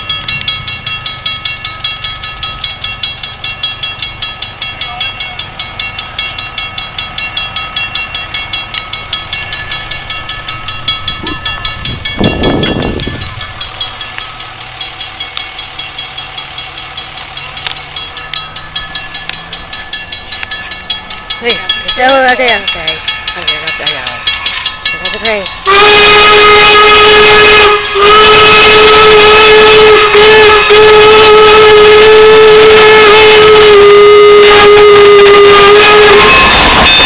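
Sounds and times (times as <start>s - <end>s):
railroad crossing bell ringing: 0.0s - 37.0s.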